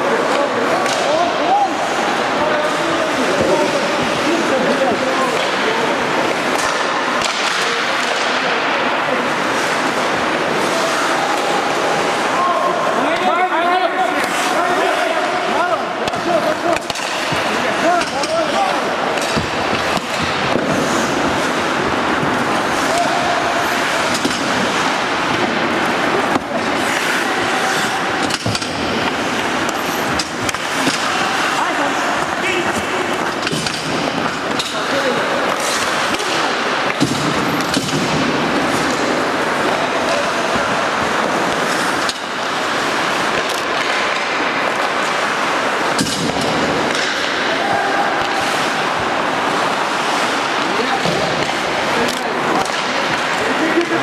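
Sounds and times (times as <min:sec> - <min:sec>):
skate blades scraping ice: 0:00.1 - 0:12.4, 0:13.3 - 0:54.0.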